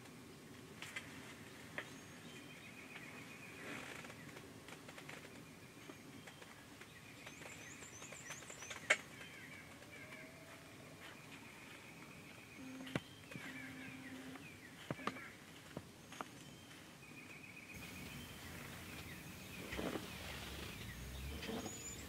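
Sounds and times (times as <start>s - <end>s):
songbirds chirping and trilling: 0.0s - 22.0s.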